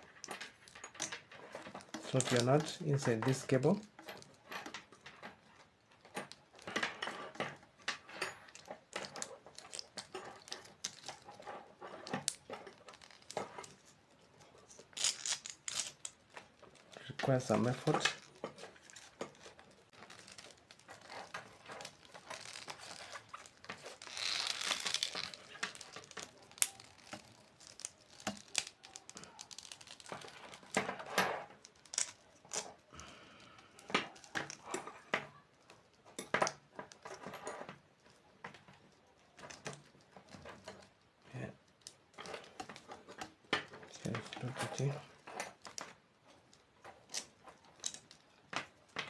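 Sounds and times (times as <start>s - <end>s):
aluminium sheet crinkling: 0.0s - 49.0s.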